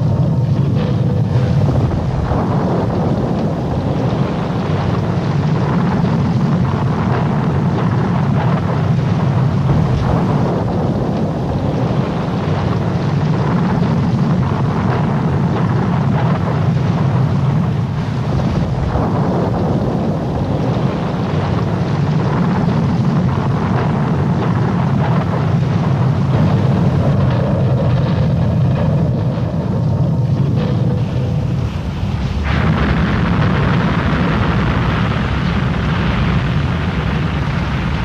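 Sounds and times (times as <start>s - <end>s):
rough sea: 0.0s - 38.0s
strong wind buffeting microphone: 0.0s - 38.0s.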